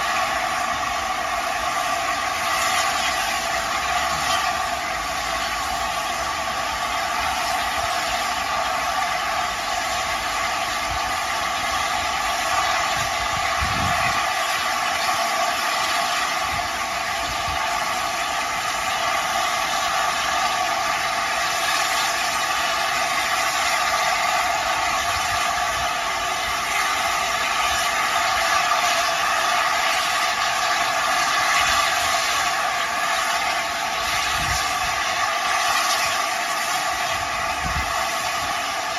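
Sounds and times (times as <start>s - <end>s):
steam locomotive hissing: 0.0s - 38.9s.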